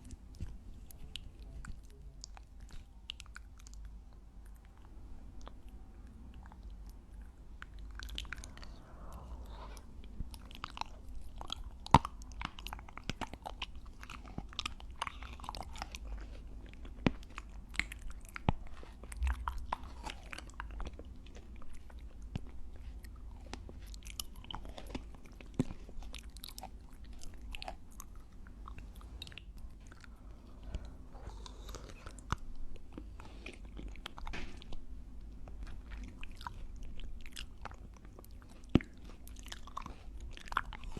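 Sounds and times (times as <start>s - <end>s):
close chewing and biting: 0.0s - 40.9s.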